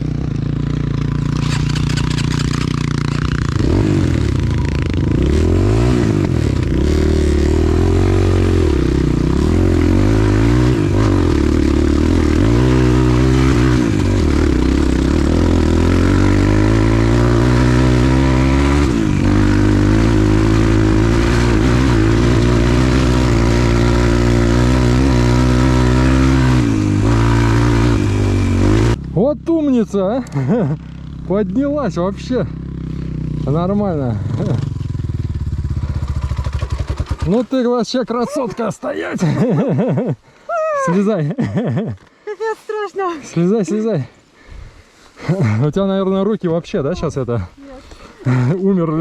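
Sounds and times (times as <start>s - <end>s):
motorcycle engine revving: 0.0s - 40.2s, 47.0s - 49.0s.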